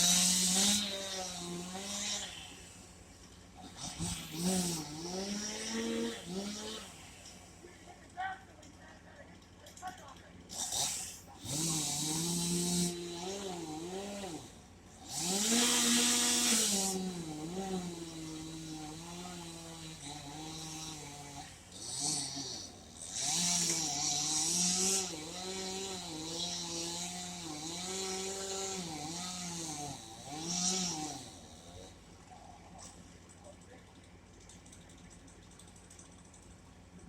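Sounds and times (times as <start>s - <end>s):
chainsaw running at high revs: 0.0s - 7.7s, 10.5s - 33.0s.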